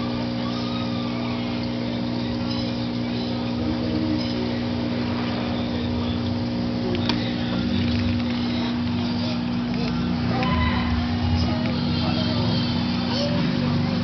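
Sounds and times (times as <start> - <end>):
aquarium pump humming: 0.0 - 14.0.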